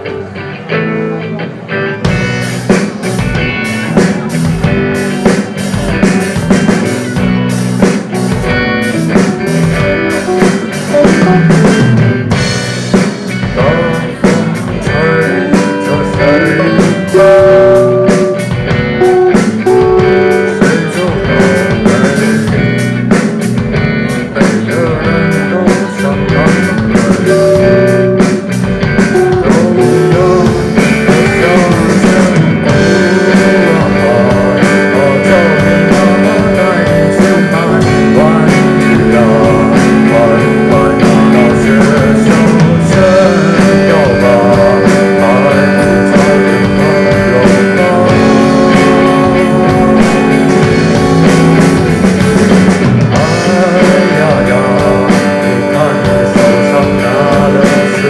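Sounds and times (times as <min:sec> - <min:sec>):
bass guitar: 0:00.0 - 0:58.0
drums: 0:00.0 - 0:58.0
electric guitar: 0:00.0 - 0:58.0.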